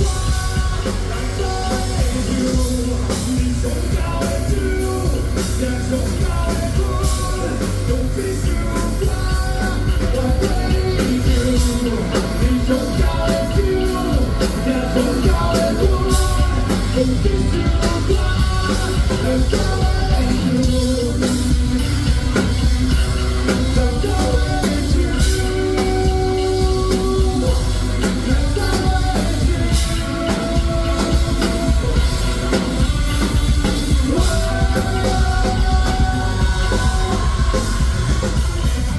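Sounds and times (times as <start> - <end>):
rock music with singing: 0.0 - 38.9.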